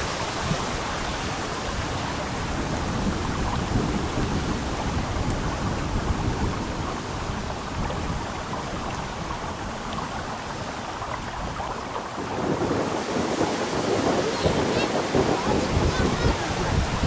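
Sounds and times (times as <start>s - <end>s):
stream flowing: 0.0s - 17.0s
wind buffeting microphone: 0.0s - 17.0s.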